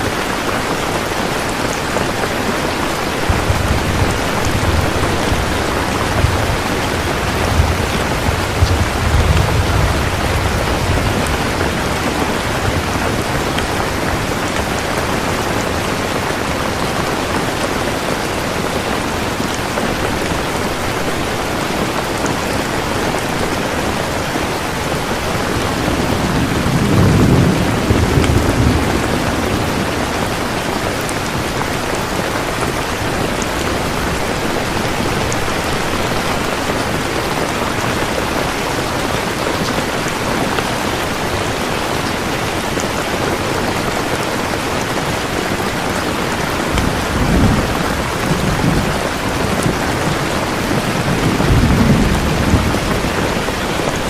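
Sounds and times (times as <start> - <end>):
heavy rain: 0.0 - 54.0
thunder rumbling: 0.9 - 44.1, 45.0 - 54.0.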